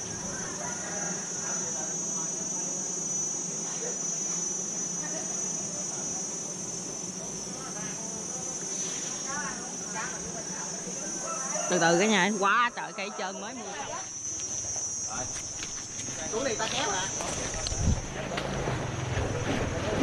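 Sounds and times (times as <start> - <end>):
high-pitched insect chorus: 0.0 - 18.3.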